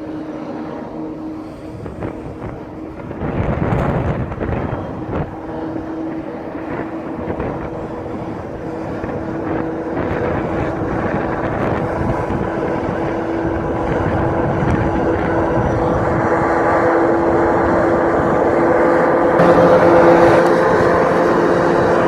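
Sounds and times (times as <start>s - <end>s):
diesel locomotive engine droning: 0.0s - 22.0s.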